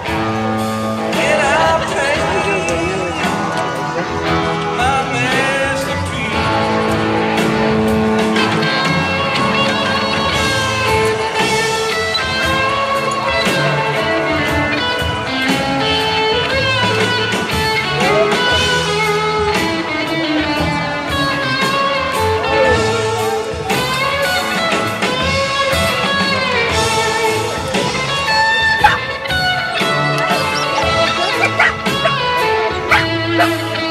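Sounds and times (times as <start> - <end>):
guitar with bending notes: 0.0 - 33.9.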